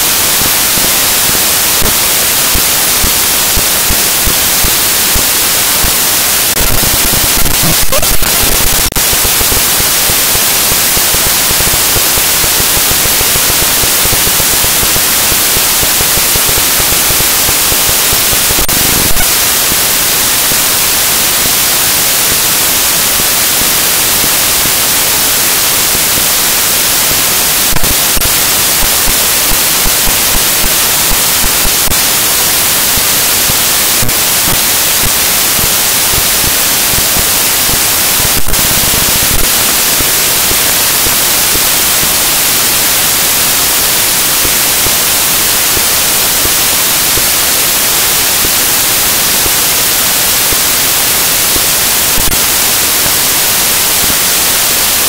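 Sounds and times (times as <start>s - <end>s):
static hiss: 0.0s - 55.0s.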